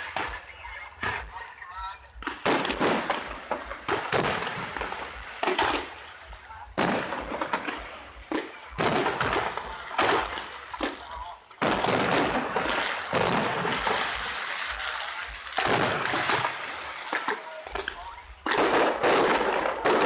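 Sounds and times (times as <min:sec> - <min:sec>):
fireworks bursting with echo: 0:00.0 - 0:20.0.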